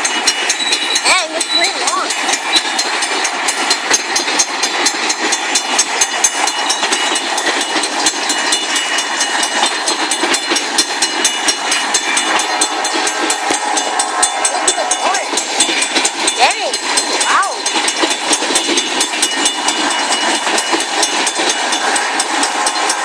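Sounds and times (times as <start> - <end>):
train wheels clicking over rails: 0.0 - 23.0.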